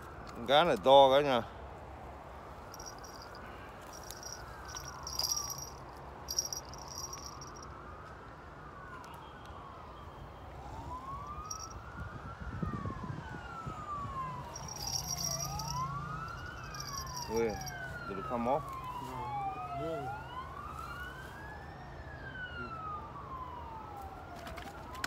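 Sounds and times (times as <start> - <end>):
emergency siren wailing: 4.2 - 25.0
second siren wailing: 4.3 - 25.0.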